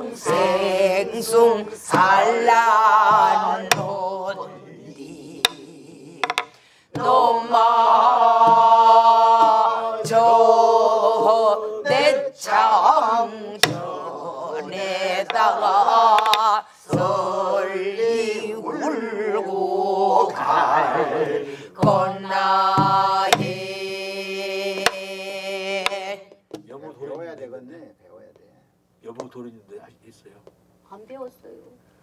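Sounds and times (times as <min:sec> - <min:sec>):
group singing folk song: 0:00.0 - 0:26.5
drum strokes: 0:00.0 - 0:26.8.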